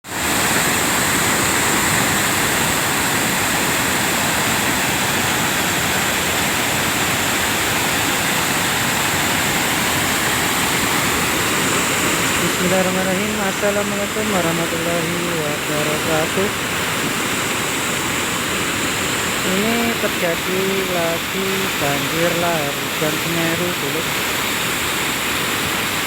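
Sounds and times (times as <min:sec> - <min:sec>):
rushing flood of water and debris: 0:00.0 - 0:26.0.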